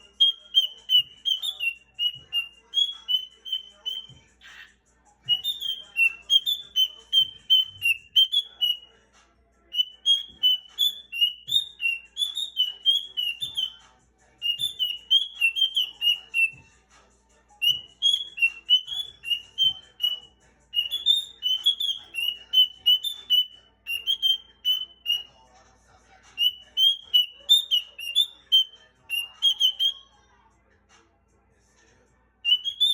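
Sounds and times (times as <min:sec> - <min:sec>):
bird whistling: 0:00.0 - 0:04.7, 0:05.3 - 0:08.9, 0:09.7 - 0:13.8, 0:14.4 - 0:16.6, 0:17.6 - 0:25.3, 0:26.4 - 0:30.0, 0:32.5 - 0:32.9.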